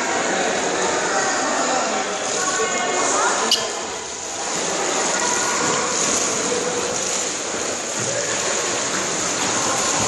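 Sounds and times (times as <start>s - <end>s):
children swimming splashing: 0.0s - 10.0s.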